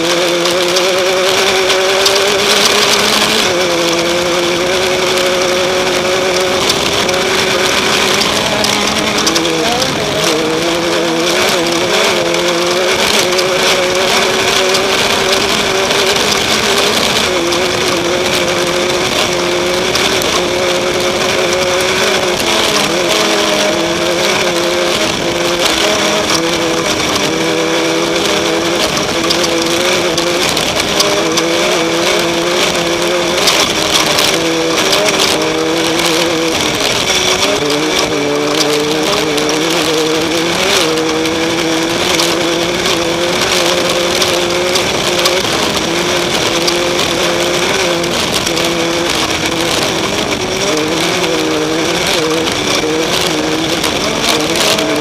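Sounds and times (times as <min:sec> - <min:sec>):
noisy rattle with knocks: 0:00.0 - 0:55.0
race car engine revving: 0:00.0 - 0:55.0.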